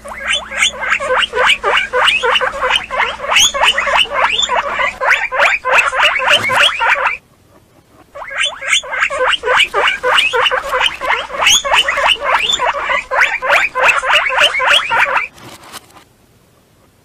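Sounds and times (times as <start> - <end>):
guinea pigs squeaking: 0.0 - 15.3.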